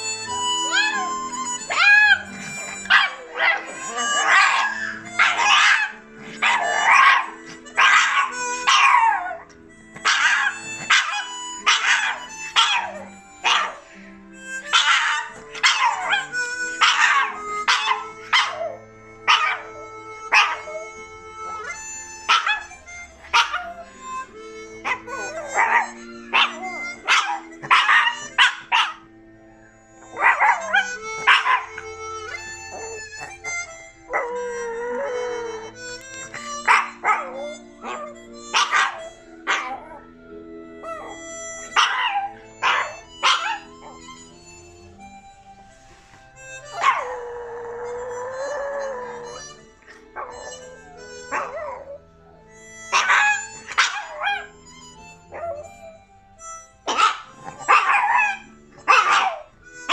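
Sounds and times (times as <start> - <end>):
dog howling: 0.0 - 13.8, 14.6 - 24.0, 24.7 - 29.1, 30.0 - 33.4, 34.1 - 40.1, 40.8 - 44.3, 46.6 - 55.8, 56.9 - 59.9
harmonica: 0.0 - 59.9.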